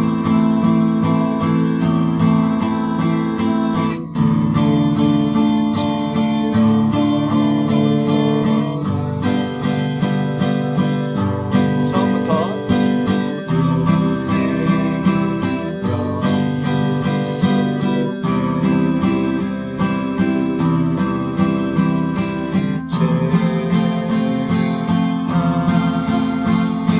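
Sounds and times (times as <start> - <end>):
acoustic guitar strummed: 0.0 - 26.9.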